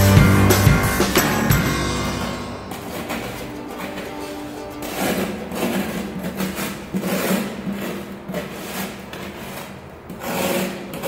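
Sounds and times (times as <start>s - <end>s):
metal utensil scraping foam board: 1.3s - 11.0s.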